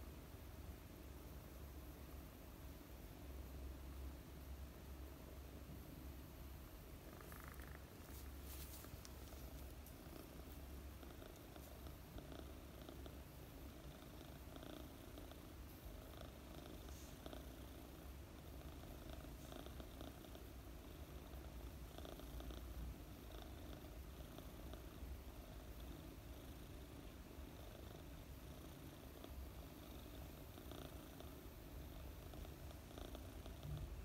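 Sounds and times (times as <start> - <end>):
kitten purring: 6.1 - 34.0.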